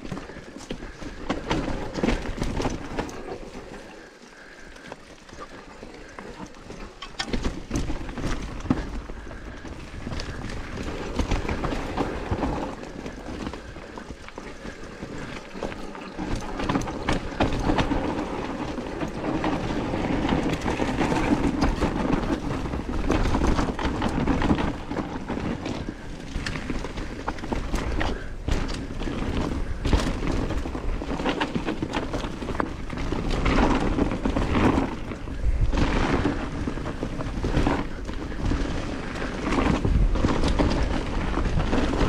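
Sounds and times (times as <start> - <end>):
bike rattling over bumps: 0.0 - 42.0
bike tyres rumbling on dirt: 0.0 - 42.0.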